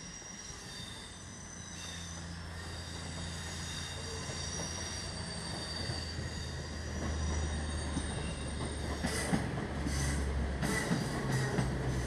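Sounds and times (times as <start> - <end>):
train running hum: 0.0 - 12.0
wheels squealing on rails: 0.0 - 12.0.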